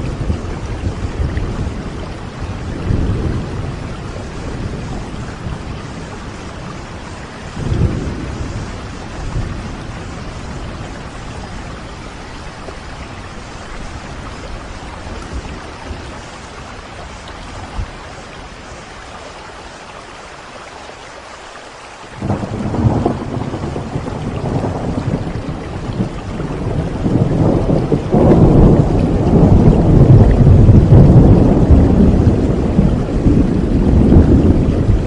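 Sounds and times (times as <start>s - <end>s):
thunder rumbling: 0.0s - 19.0s, 22.2s - 35.0s
steady rain falling: 0.0s - 35.0s.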